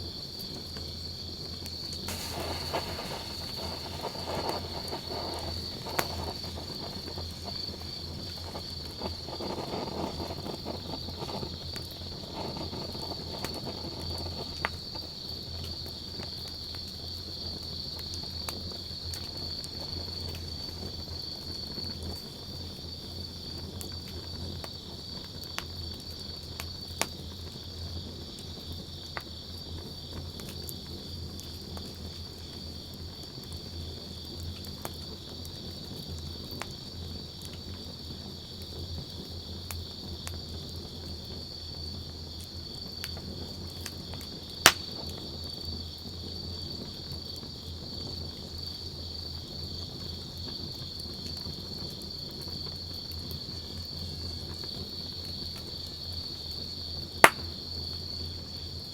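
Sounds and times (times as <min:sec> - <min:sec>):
insects chirring: 0:00.0 - 0:29.0, 0:29.8 - 0:58.9
wood fire crackling: 0:00.1 - 0:29.2, 0:34.5 - 0:58.8.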